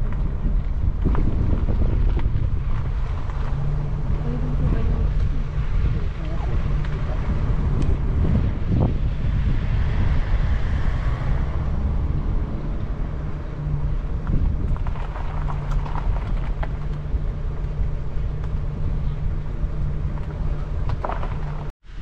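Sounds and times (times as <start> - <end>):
car engine and road rumble: 0.0 - 22.0
constant hum: 0.0 - 22.0.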